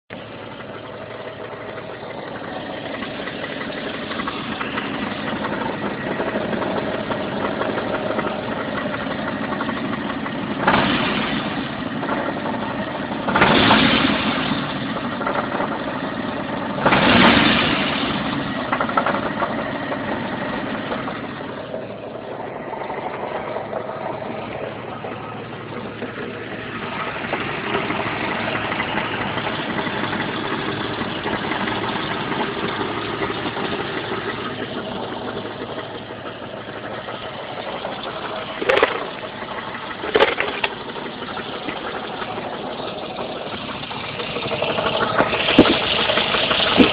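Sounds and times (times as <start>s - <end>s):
car engine idling with rattling knock: 0.1s - 46.9s.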